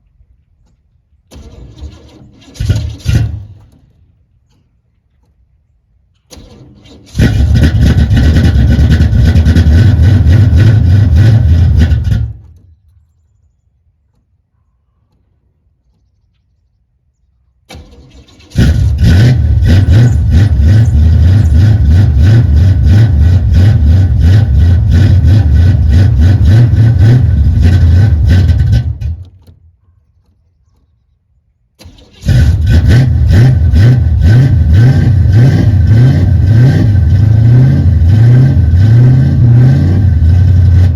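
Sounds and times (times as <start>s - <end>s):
car engine starting and stalling: 0.6s - 13.3s, 17.6s - 30.9s, 31.7s - 40.9s.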